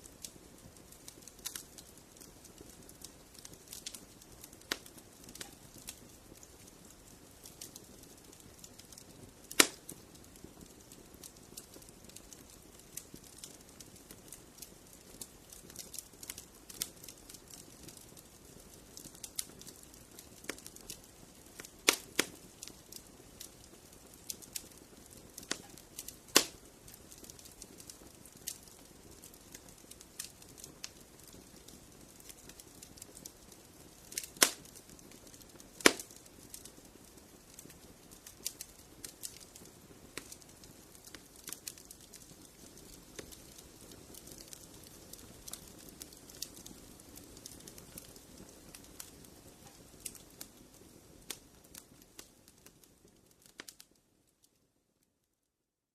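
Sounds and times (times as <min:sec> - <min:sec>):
sharp pops from fire: 0:00.0 - 0:54.0
wood fire crackling: 0:00.0 - 0:55.3
soft low hiss: 0:00.0 - 0:55.6.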